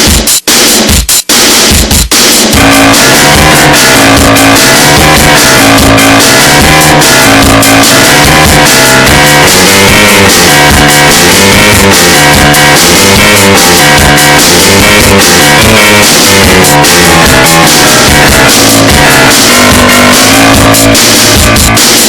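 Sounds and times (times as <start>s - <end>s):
driving bass line: 0.0s - 22.0s
drums: 0.0s - 22.0s
band music: 2.4s - 22.0s
brass: 2.4s - 22.0s
keyboard: 2.6s - 22.0s.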